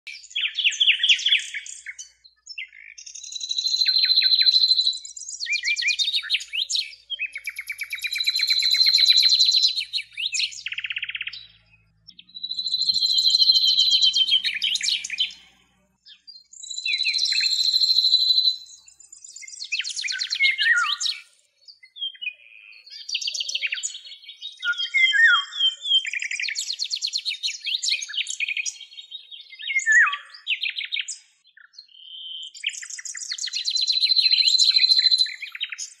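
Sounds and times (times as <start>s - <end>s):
bird singing trills and whistles: 0.1s - 36.0s.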